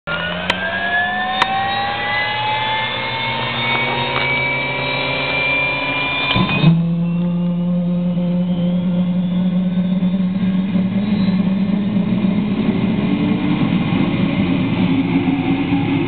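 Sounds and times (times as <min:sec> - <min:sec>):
turbine engine whine rising: 0:00.1 - 0:16.0.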